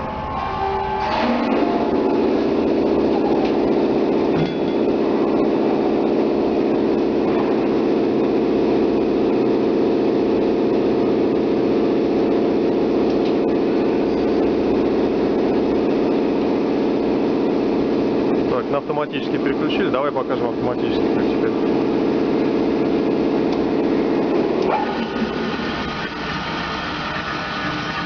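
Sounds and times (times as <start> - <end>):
band saw droning: 0.0 - 28.0.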